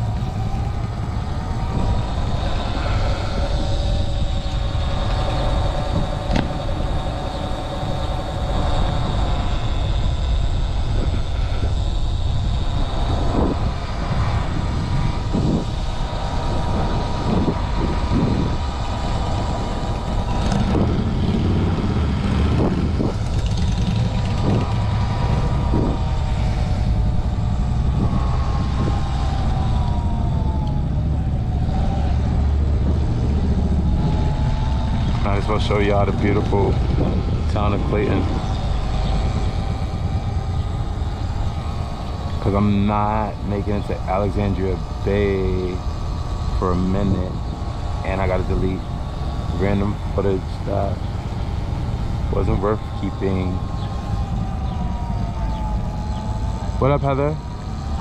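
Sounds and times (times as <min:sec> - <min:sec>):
electric motor whine: 0:00.0 - 0:58.0
wind rumbling on microphone: 0:00.0 - 0:58.0.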